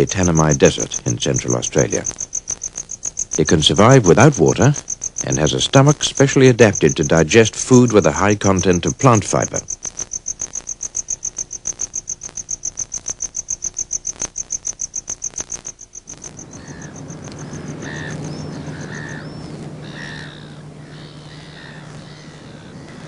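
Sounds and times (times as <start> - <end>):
gulls calling: 0.0 - 11.2, 15.0 - 23.0
cricket chirping: 0.0 - 23.0
steady low hum: 0.0 - 23.0.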